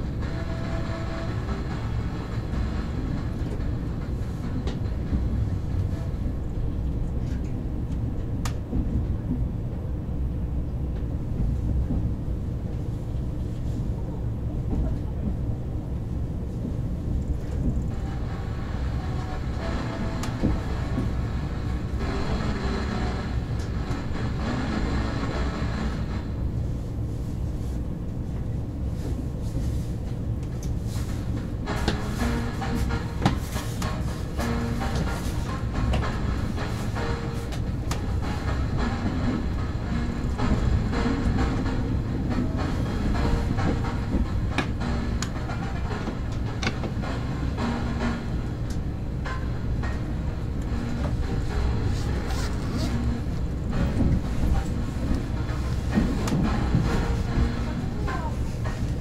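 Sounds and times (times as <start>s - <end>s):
rail noise: 0.0s - 59.0s
train running low rumble: 0.0s - 59.0s.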